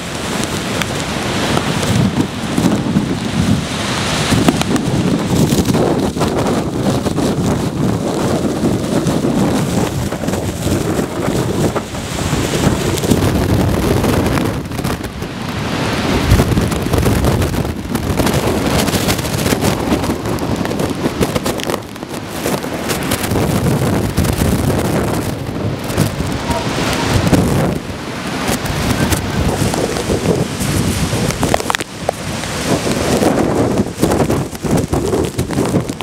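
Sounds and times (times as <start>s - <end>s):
rain driving down: 0.0s - 36.0s
wind buffeting microphone: 0.0s - 36.0s
wind gusting: 0.0s - 36.0s.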